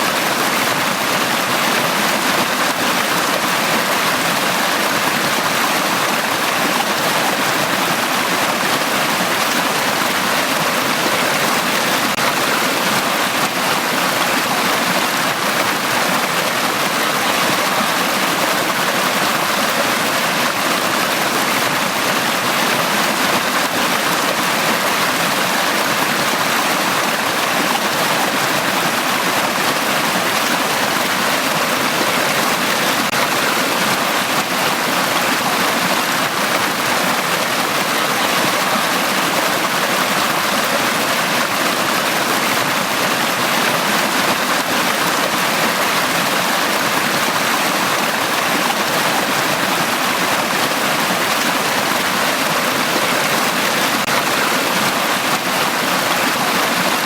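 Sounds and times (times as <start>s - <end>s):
stream rushing water: 0.0s - 57.0s.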